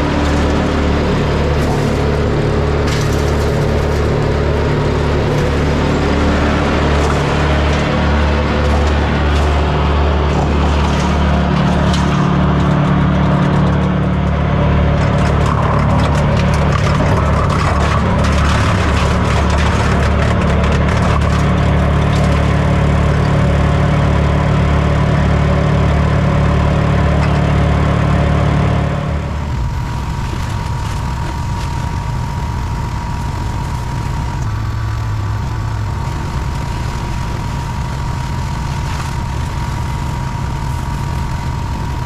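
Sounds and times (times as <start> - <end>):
diesel wood chipper running: 0.0 - 42.0.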